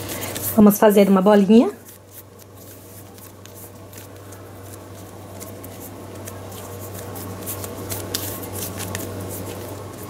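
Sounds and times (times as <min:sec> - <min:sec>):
hands squishing dough: 0:00.0 - 0:10.0
steady low hum: 0:00.0 - 0:10.0.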